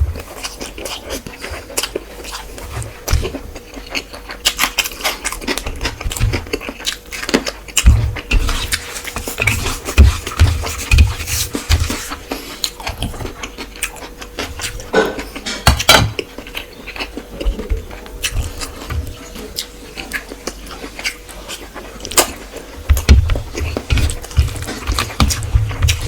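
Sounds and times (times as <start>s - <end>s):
chewing and mouth smacks: 0.2s - 26.0s.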